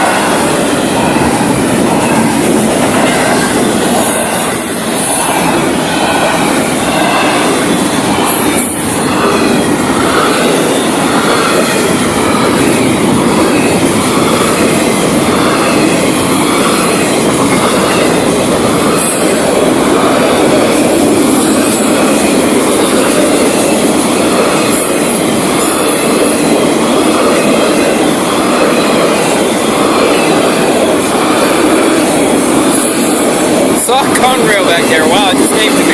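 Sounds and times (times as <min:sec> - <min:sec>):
freight train wheels on rails: 0:00.0 - 0:35.9
rhythmic clickety-clack: 0:00.0 - 0:35.9.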